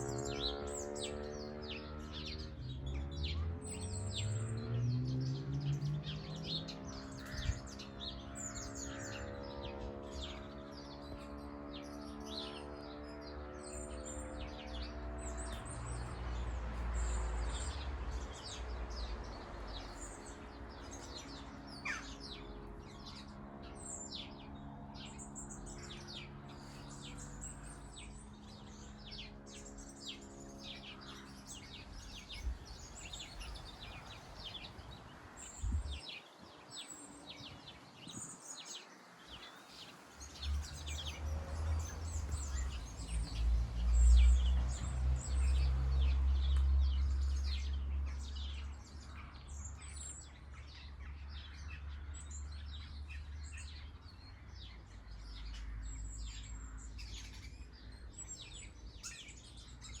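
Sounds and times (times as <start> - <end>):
small birds chirping: 0.0 - 60.0.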